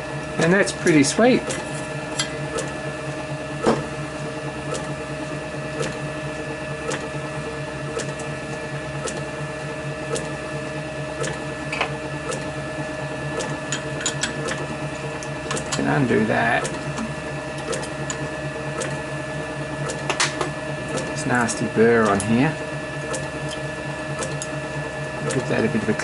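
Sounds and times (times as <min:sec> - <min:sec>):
small machine humming: 0:00.0 - 0:26.0.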